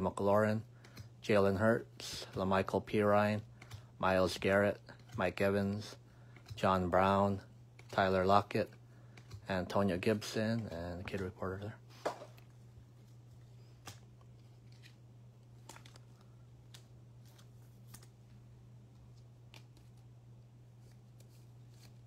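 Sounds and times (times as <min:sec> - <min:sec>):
trading cards clicking and rustling: 0:00.5 - 0:22.0.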